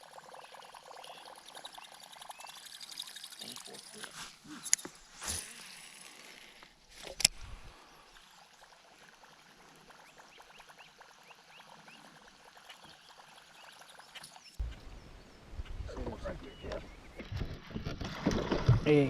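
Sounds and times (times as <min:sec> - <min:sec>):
water lapping and trickling: 0:00.0 - 0:14.8, 0:16.0 - 0:19.0.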